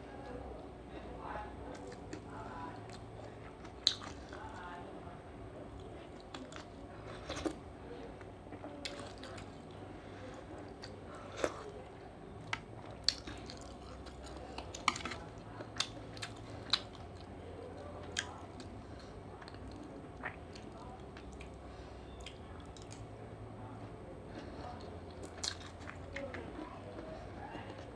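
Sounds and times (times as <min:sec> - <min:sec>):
chewing with mouth smacks: 0:01.7 - 0:04.7, 0:05.7 - 0:23.4, 0:24.2 - 0:27.9.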